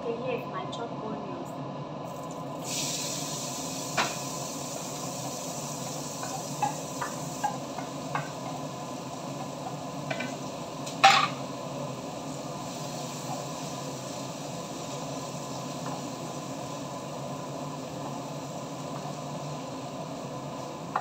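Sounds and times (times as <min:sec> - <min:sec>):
onions sizzling in oil: 0:02.0 - 0:21.0.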